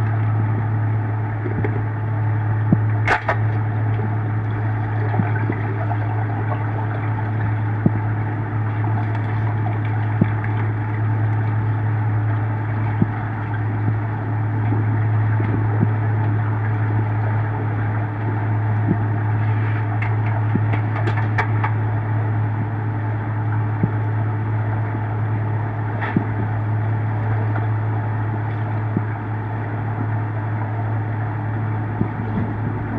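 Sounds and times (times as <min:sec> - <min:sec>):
underwater low hum: 0:00.0 - 0:32.9.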